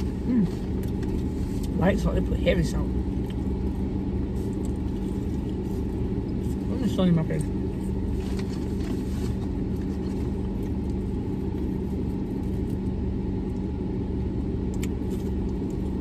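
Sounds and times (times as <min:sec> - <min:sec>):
car engine hum inside cabin: 0:00.0 - 0:16.0.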